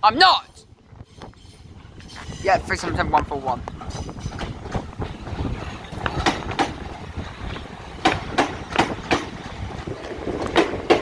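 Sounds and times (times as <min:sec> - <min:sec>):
train low rumble: 0:00.0 - 0:11.0
train wheels clicking over rail joints: 0:00.9 - 0:11.0.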